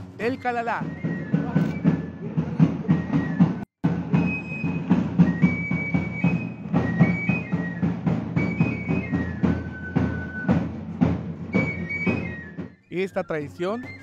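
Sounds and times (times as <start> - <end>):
steady drum beat: 0.0 - 14.0
high flute melody: 0.1 - 14.0.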